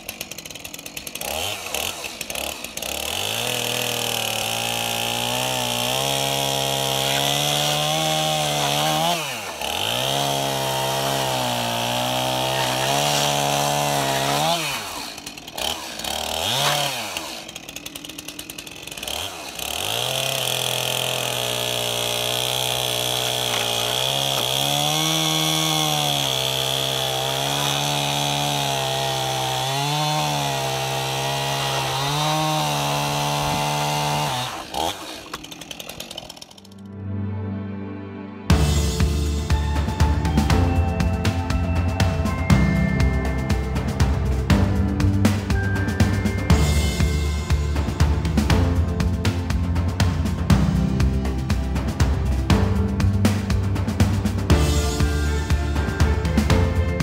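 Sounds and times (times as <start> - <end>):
chainsaw cutting wood: 0.0 - 36.9, 38.5 - 57.0.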